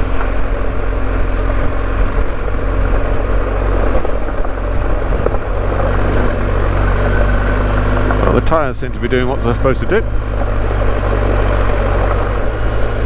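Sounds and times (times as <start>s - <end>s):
motorcycle engine cruising: 0.0s - 13.0s
tyres on gravel: 0.0s - 13.0s
wind noise: 0.0s - 13.0s.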